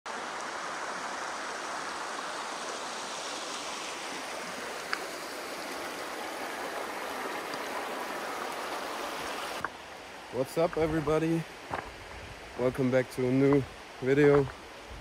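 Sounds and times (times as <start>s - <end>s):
river babbling over stones: 0.1s - 15.0s.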